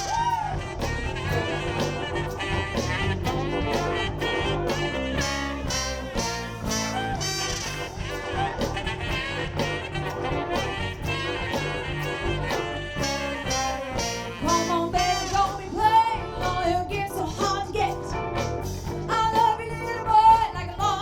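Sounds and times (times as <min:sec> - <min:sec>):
horn section: 0:00.0 - 0:20.9
soul band playing: 0:00.0 - 0:21.0.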